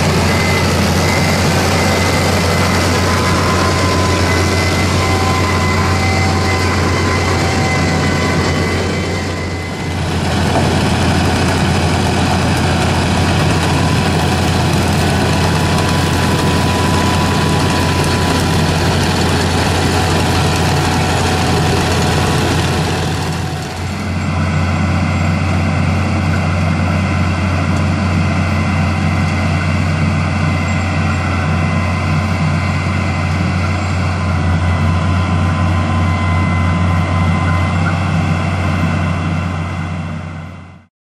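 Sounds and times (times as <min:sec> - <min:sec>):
harvester machinery droning: 0:00.0 - 0:40.9.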